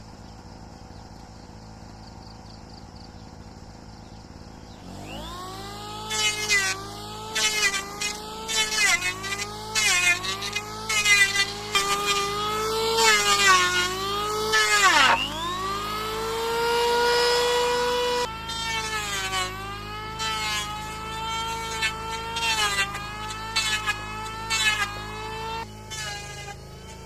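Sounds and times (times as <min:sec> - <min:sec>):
power tool motor running: 0:00.0 - 0:27.0.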